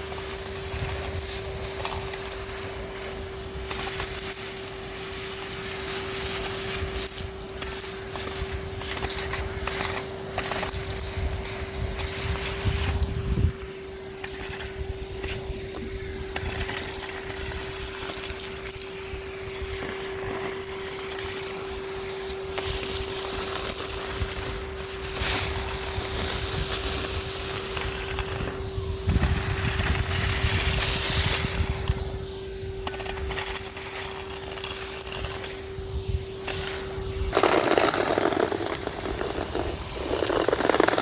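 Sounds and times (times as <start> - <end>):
grit rattling in vacuum nozzle: 0.0 - 41.0
vacuum cleaner whining: 0.0 - 41.0.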